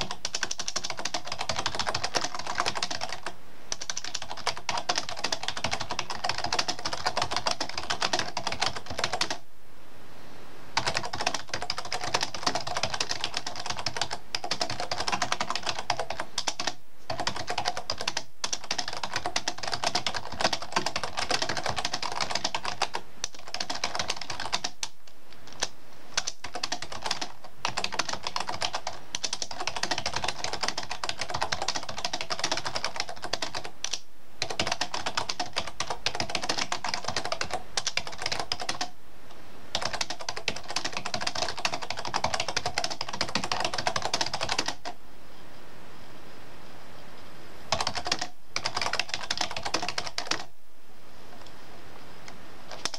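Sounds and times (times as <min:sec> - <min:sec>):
fast typing on keyboard: 0:00.0 - 0:09.4, 0:10.8 - 0:38.9, 0:39.7 - 0:45.0, 0:47.7 - 0:50.5, 0:52.7 - 0:52.9.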